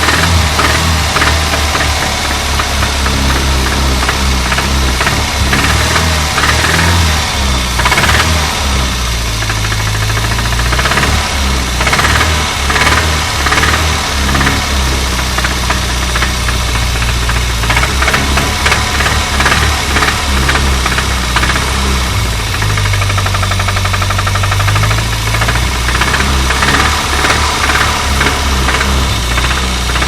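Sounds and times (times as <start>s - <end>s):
car engine running: 0.0s - 30.0s
fast regular engine knock: 0.0s - 30.0s.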